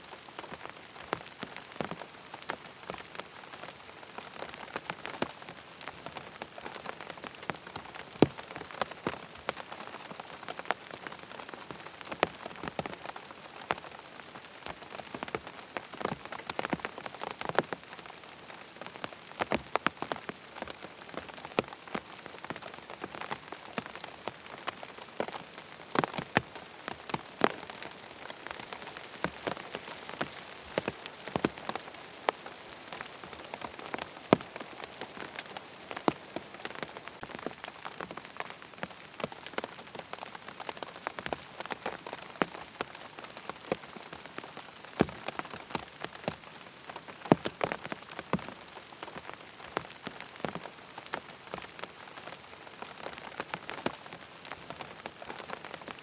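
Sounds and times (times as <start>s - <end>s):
raindrops striking a surface: 0.0s - 56.0s
steady rain falling: 0.0s - 56.0s.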